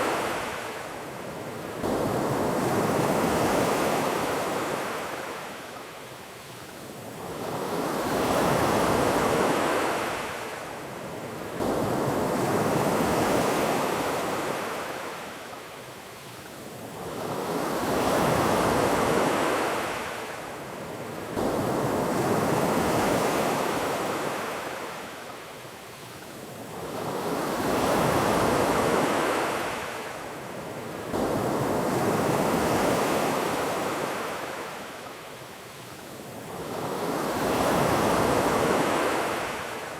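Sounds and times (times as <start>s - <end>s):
ocean waves on beach: 0.0s - 39.9s.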